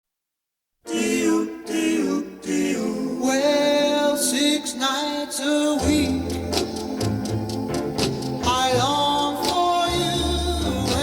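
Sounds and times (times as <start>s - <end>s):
vocal group singing harmony: 0.8s - 11.0s.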